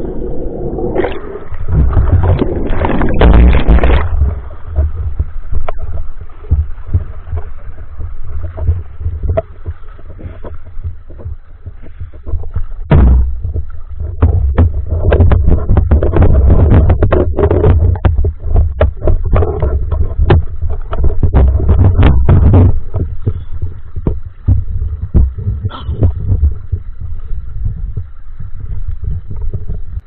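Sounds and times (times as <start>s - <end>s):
heavy low rumble: 0.0s - 30.0s
water sloshing and gurgling: 0.0s - 30.0s
sharp clicks and knocks: 1.7s - 27.1s.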